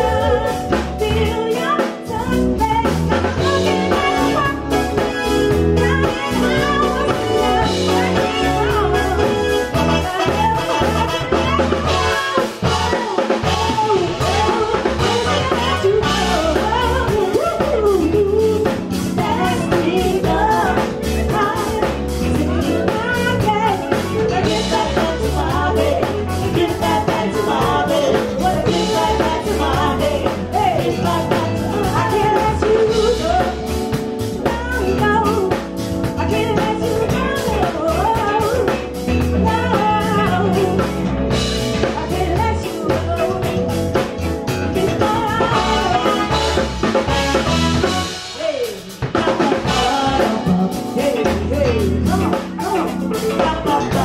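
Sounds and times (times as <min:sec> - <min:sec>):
drum kit beat: 0:00.0 - 0:54.0
electric bass: 0:00.0 - 0:54.0
keyboard: 0:00.0 - 0:54.0
woman singing: 0:00.0 - 0:54.0.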